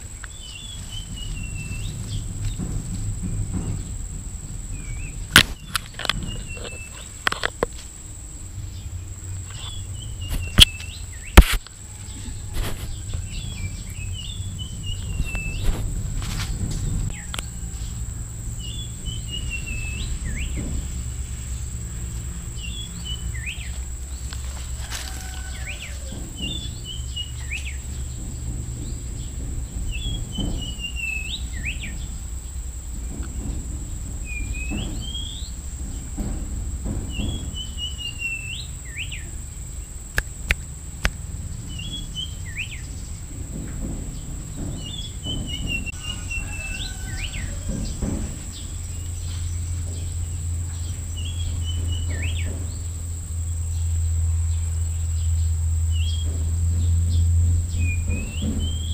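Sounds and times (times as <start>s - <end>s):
low rumble: 0.0s - 58.9s
songbird chirping: 0.0s - 58.9s.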